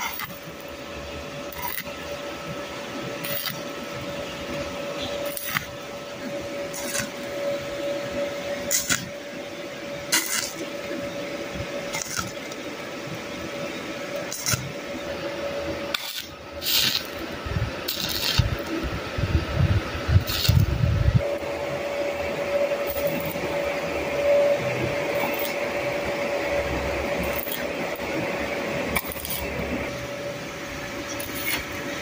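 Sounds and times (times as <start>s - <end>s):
sizzling bursts: 0.0s - 32.0s
welding arc crackle: 0.0s - 32.0s.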